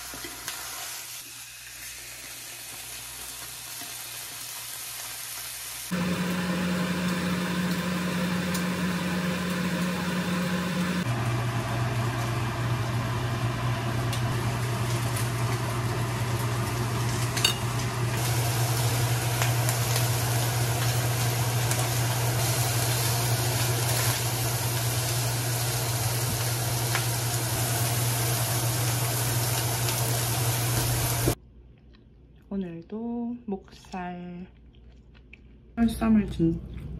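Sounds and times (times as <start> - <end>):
pork sizzling in a pan: 0.0 - 31.4.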